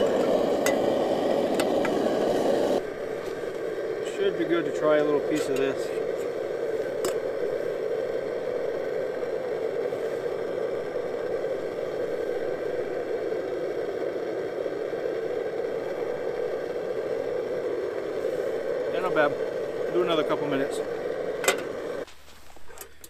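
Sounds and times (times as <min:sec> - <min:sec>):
camp stove burner roaring: 0:00.0 - 0:23.0.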